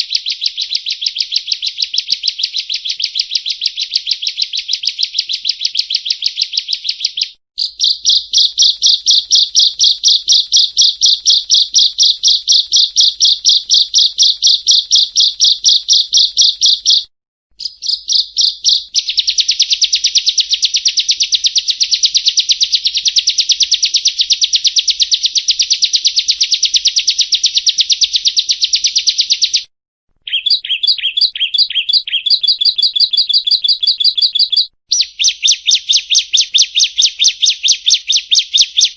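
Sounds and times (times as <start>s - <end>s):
bird song of rapid high notes: 0.0s - 38.9s.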